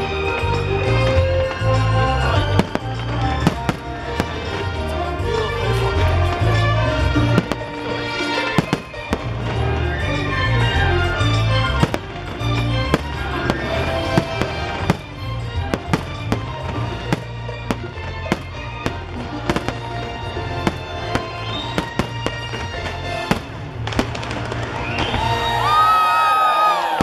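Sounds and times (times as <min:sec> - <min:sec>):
fireworks bursting: 0:00.0 - 0:27.0
orchestral music: 0:00.0 - 0:27.0.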